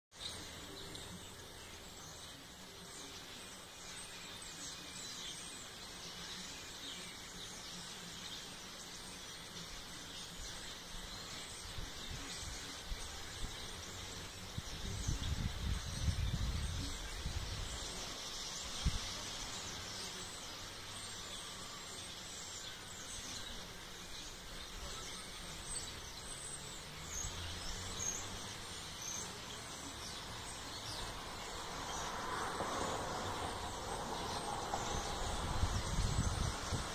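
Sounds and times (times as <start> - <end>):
flock of small birds chirping: 0.1 - 36.9.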